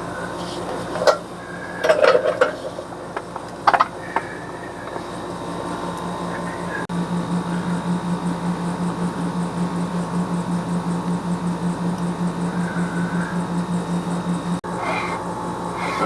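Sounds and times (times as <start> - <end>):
pulsing mechanical hum: 0.0 - 16.0.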